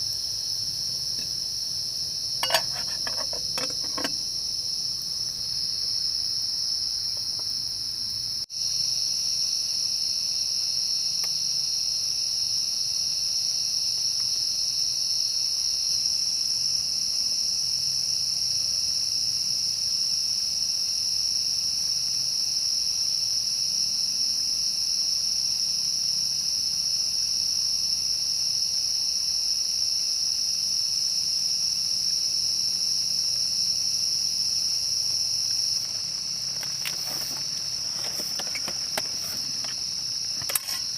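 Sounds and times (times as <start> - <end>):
insect chorus buzzing: 0.0 - 40.9.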